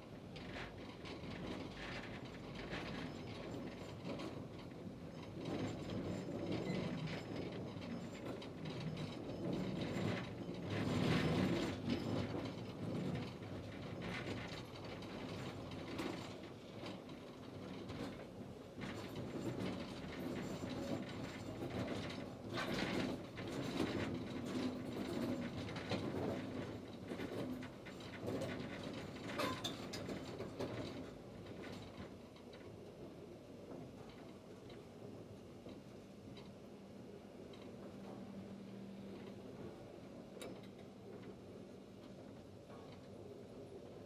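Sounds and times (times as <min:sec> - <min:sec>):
steam locomotive rattling and clanking: 0:00.0 - 0:44.0.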